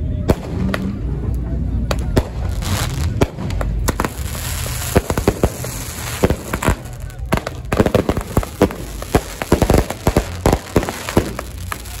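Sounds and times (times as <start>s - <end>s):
fireworks bangs and crackling: 0.0s - 12.0s
rockets hissing rush: 2.3s - 12.0s.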